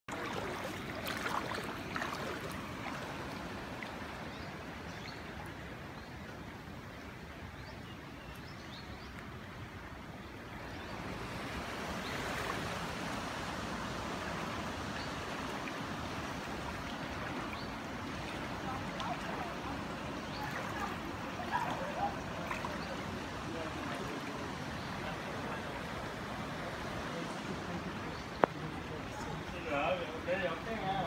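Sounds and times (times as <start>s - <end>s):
wading through floodwater: 0.0s - 31.0s.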